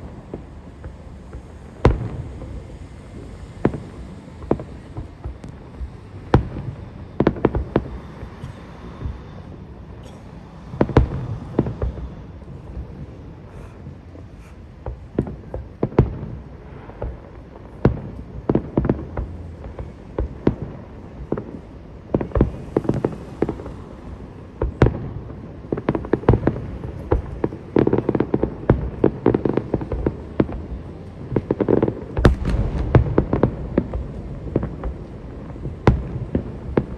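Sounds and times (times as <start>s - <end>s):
fireworks bursting with sharp bangs: 0.0s - 36.9s.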